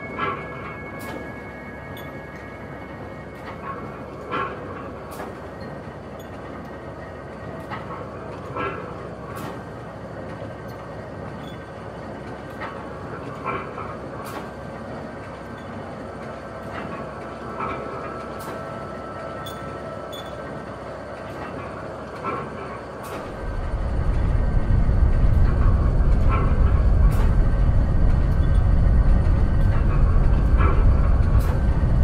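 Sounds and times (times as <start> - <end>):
mechanical rumble and hiss: 0.0 - 32.0.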